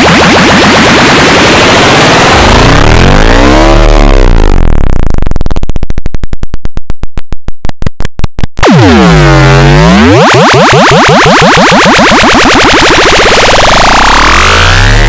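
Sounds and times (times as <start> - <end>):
distorted synthesized sound effect: 0.0 - 6.7, 8.6 - 15.0.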